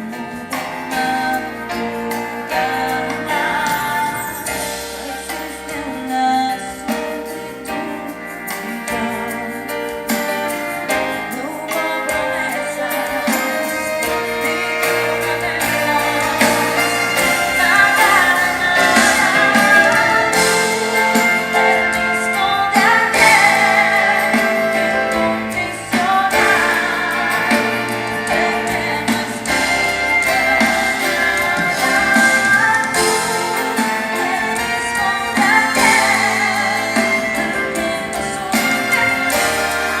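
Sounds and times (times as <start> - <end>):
live band playing: 0.0 - 40.0
person singing: 0.0 - 40.0.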